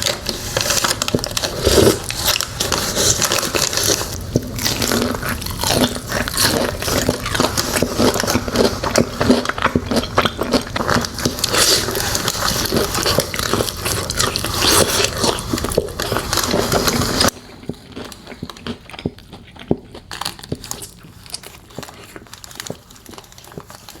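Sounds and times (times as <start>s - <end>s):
crunchy chewing: 0.0s - 24.0s.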